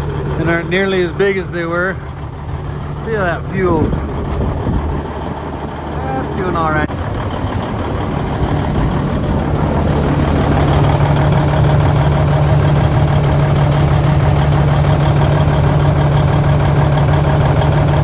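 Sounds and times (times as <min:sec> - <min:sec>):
engine cooling fan blowing: 0:00.0 - 0:18.0
truck diesel engine idling: 0:00.0 - 0:18.0.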